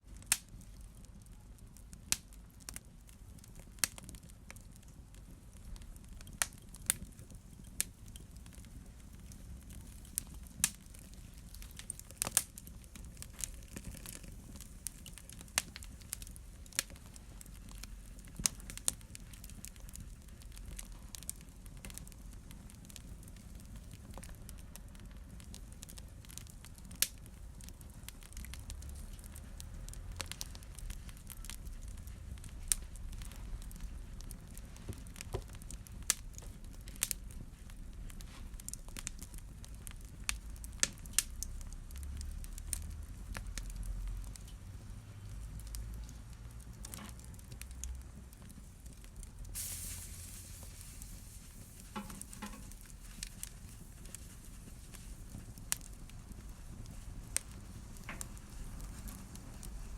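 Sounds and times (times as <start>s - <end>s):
low rumble of flame: 0.0s - 59.9s
fire pops and snaps: 0.1s - 59.9s.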